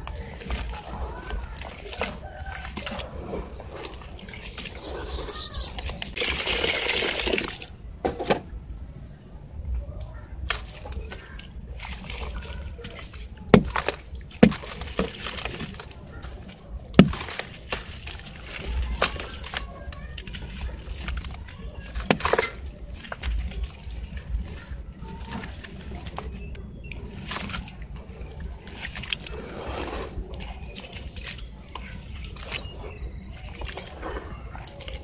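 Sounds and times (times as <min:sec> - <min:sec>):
hands squeezing wet sand-cement: 0:00.0 - 0:07.8, 0:10.3 - 0:35.0
water and wet grit pouring: 0:00.0 - 0:07.8, 0:10.1 - 0:35.0
water sloshing and splashing: 0:00.0 - 0:35.0.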